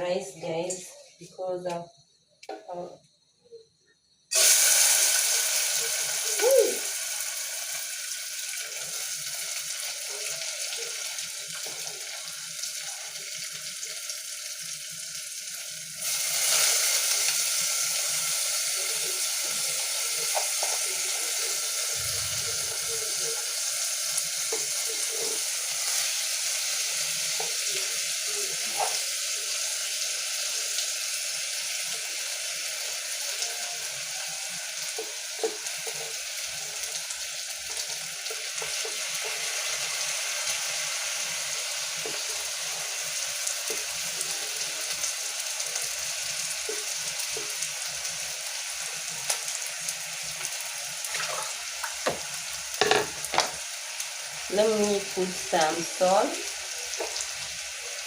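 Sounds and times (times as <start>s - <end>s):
rice sizzling in hot oil: 4.1s - 58.0s.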